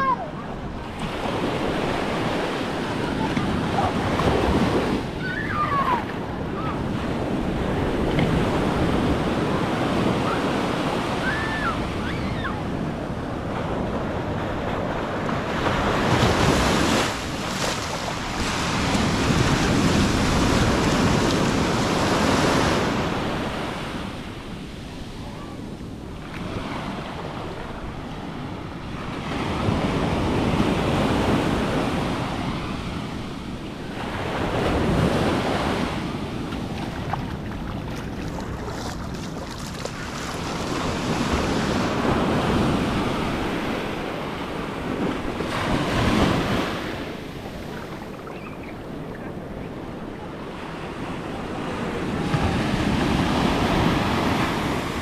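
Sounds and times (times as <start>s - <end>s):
surf breaking on sandy beach: 0.0s - 25.0s, 29.2s - 55.0s.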